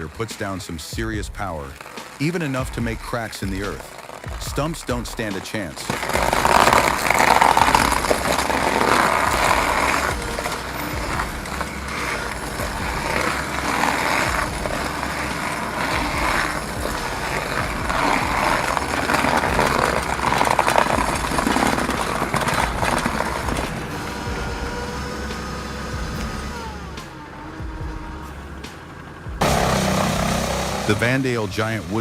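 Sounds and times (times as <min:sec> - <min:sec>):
stump grinder grinding: 0:00.0 - 0:32.0.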